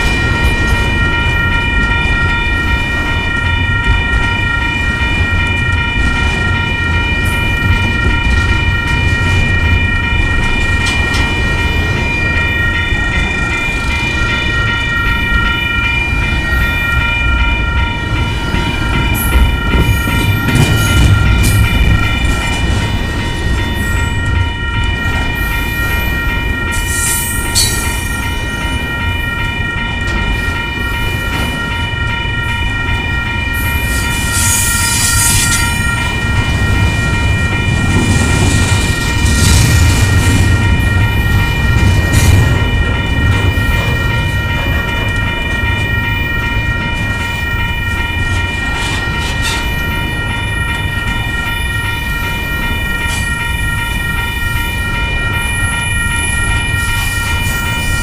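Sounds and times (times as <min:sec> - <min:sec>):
high ringing tone: 0:00.0 - 0:58.0
train wheels rumbling on rail: 0:00.0 - 0:58.0.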